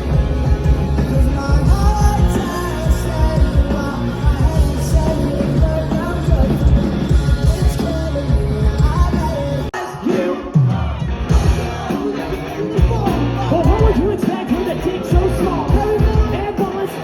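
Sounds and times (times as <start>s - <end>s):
rock music with singing: 0.0s - 17.0s.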